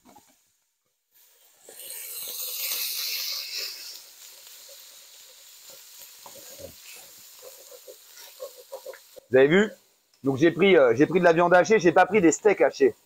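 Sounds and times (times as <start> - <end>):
meat sizzling in hot pot: 0.0 - 13.0.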